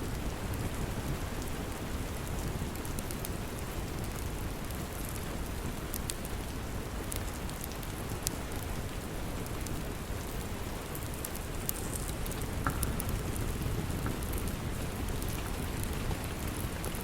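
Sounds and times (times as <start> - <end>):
steady rain: 0.0 - 17.0
wood fire crackling and popping: 0.1 - 17.0.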